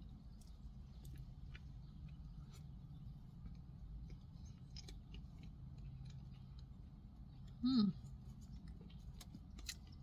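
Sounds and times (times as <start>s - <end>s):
person chewing cake: 0.0s - 10.0s.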